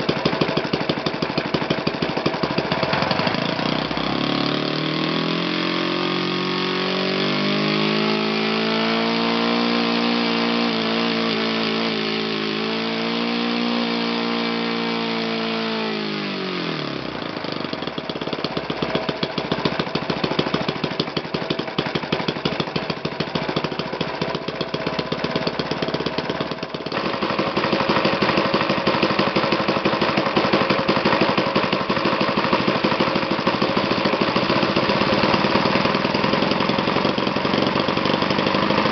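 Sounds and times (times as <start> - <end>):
model engine driving propeller: 0.0 - 38.9.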